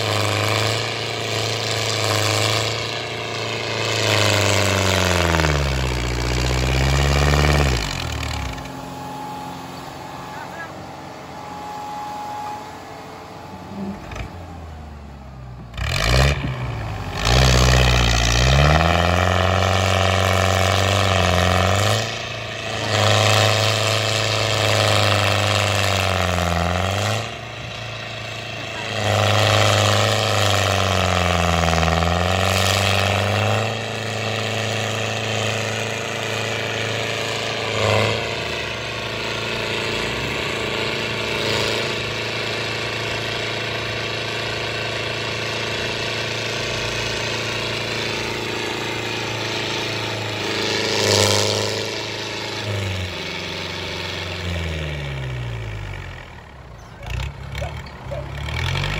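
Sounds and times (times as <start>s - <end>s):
tractor diesel engines under load: 0.0s - 58.9s.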